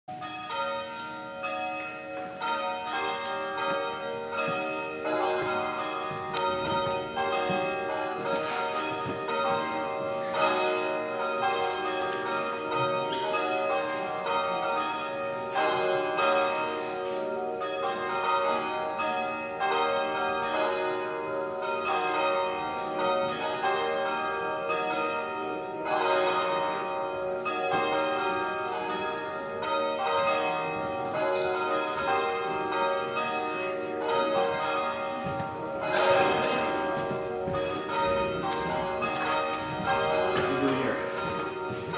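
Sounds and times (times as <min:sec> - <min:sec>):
church bells ringing: 0:00.1 - 0:41.9.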